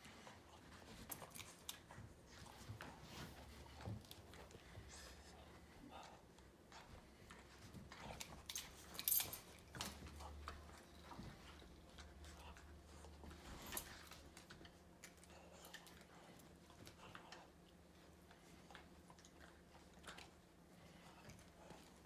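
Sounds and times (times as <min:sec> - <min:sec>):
dogs tugging toy clicks and scuffles: 0:00.0 - 0:05.2, 0:06.0 - 0:22.0.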